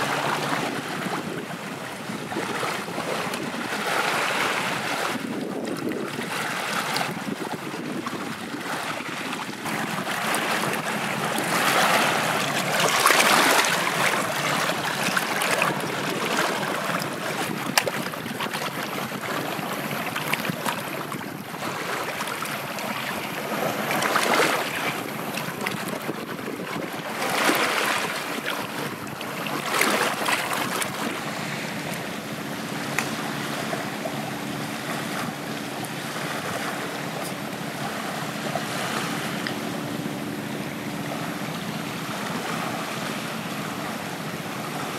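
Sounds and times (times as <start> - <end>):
seawater washing at shoreline: 0.0 - 44.9.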